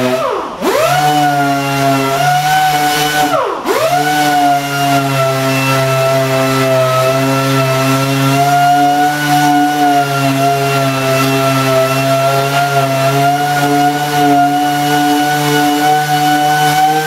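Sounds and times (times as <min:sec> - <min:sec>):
orbital sander whining: 0:00.0 - 0:17.0.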